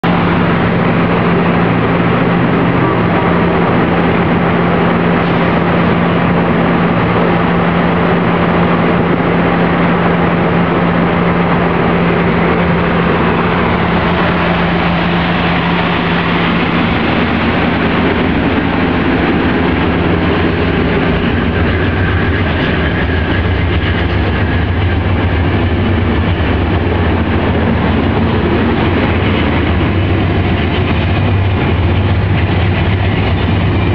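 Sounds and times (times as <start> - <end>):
low hum: 0.0 - 33.9
train wheels rumbling on rails: 0.0 - 33.9.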